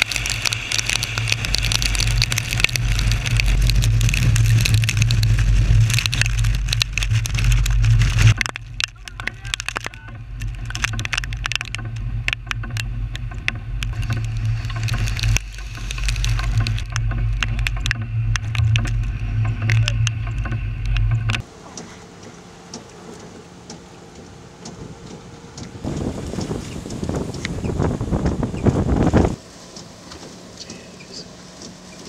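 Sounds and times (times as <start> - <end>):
raindrops ticking on vehicle: 0.0 - 21.4, 22.2 - 32.0
vehicle engine humming: 0.0 - 32.0
wind and rain hiss: 0.0 - 32.0.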